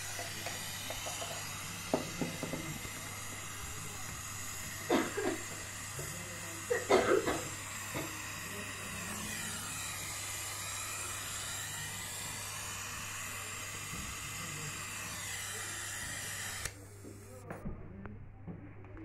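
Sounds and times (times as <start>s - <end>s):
torch flame hissing: 0.0s - 17.5s.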